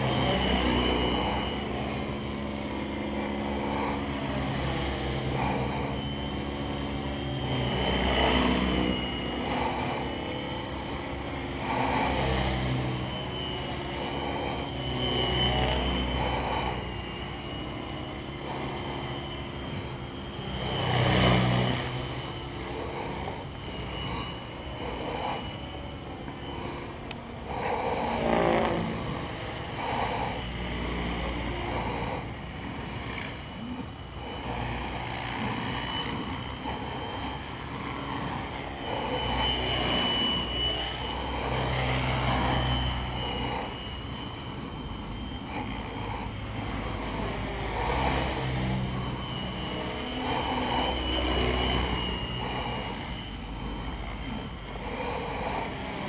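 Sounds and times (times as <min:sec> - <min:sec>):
helicopter rotor: 0:00.0 - 0:56.0
rc helicopter motor whine: 0:00.0 - 0:56.0.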